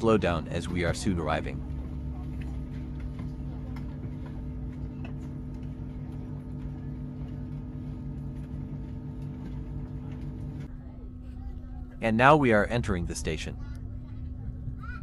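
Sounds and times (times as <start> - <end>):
train cabin hum: 0.0 - 15.0.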